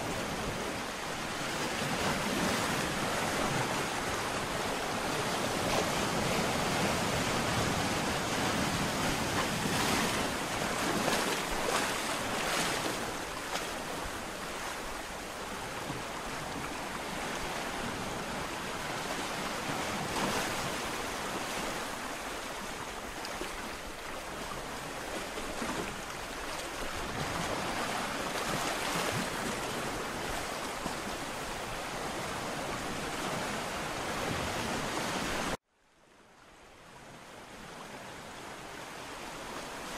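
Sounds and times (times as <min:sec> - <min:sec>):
ocean waves breaking: 0:00.0 - 0:35.6.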